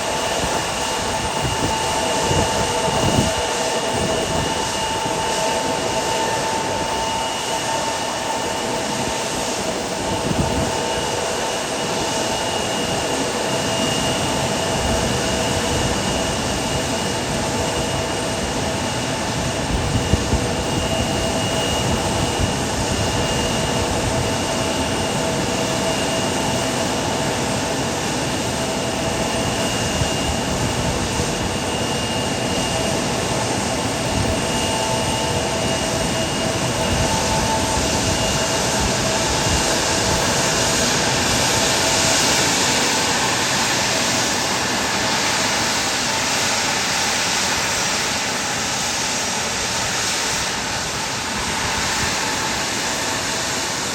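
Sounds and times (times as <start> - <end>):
jet engines running: 0.0 - 53.9.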